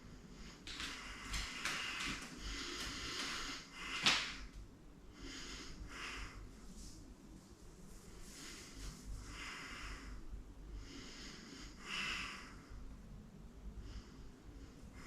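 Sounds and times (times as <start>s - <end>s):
person breathing hard: 0.0s - 4.5s, 5.1s - 7.1s, 7.9s - 12.9s, 13.8s - 15.0s.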